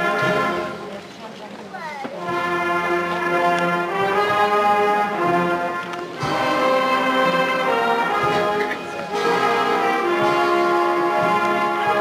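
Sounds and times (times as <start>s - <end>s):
brass band playing slow chords: 0.0s - 1.1s, 2.1s - 12.0s.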